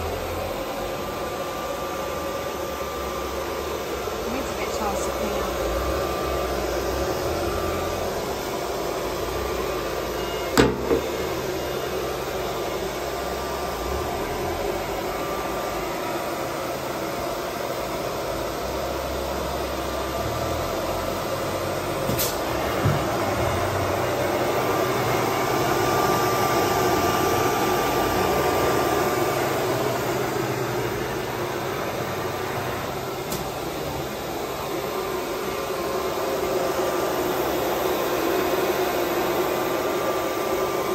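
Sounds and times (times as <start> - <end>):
vacuum pump running: 0.0 - 40.9.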